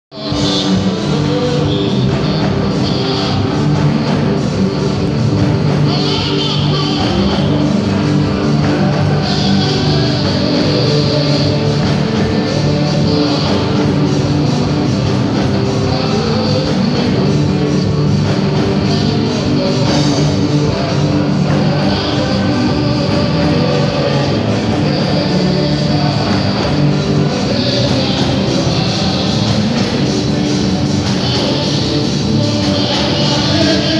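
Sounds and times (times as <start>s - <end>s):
live band with singing: 0.1s - 33.9s.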